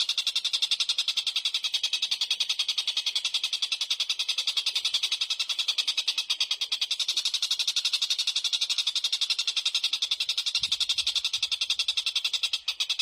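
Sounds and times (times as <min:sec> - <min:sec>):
songbird chattering trill: 0:00.0 - 0:13.0.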